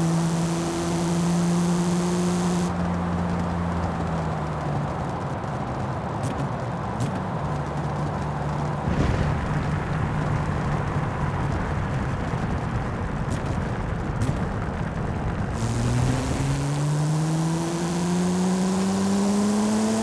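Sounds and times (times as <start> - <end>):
car engine cruising: 0.0 - 20.0
wind and road noise: 0.0 - 20.0.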